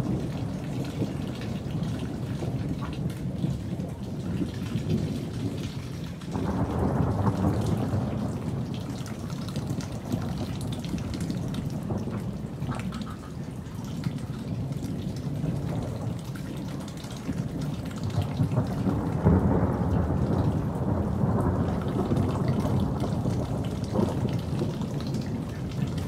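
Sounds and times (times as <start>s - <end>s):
steady rain: 0.0s - 26.0s
thunder rumbling: 0.0s - 26.0s.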